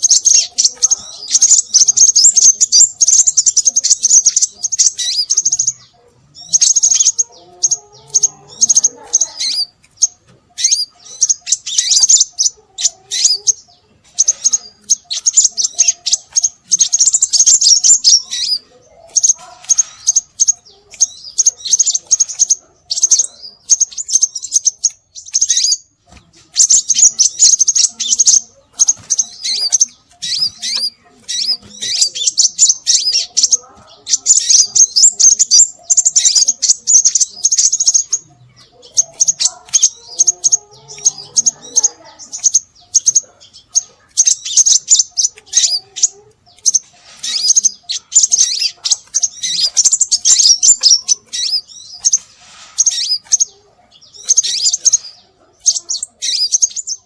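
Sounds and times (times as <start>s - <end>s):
bird high-pitched chirps: 0.0s - 57.0s.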